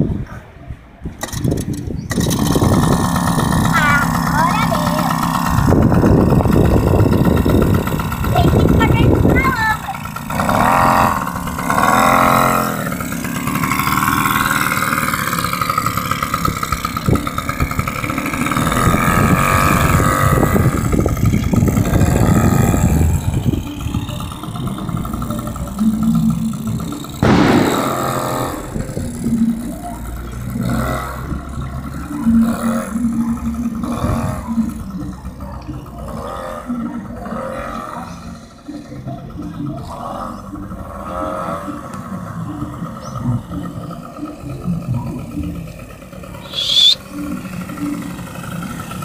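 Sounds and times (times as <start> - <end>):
quad two-stroke engine revving: 1.0 - 49.0.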